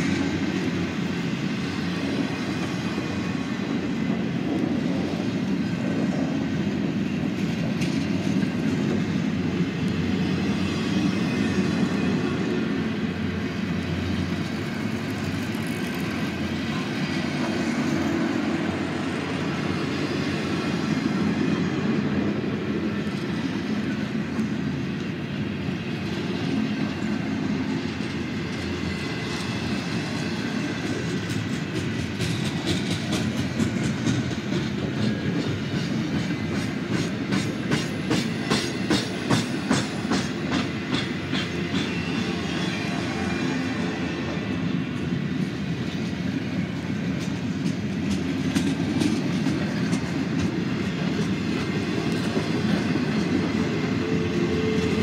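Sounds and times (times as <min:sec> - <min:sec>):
clickety-clack of wheels: 0:00.0 - 0:55.0
train cars rolling on rails: 0:00.0 - 0:55.0.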